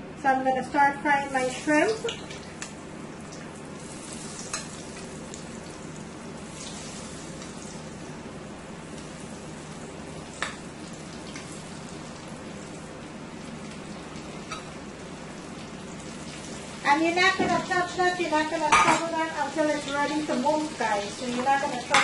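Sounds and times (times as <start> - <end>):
shrimp frying in hot oil: 1.0 - 22.0.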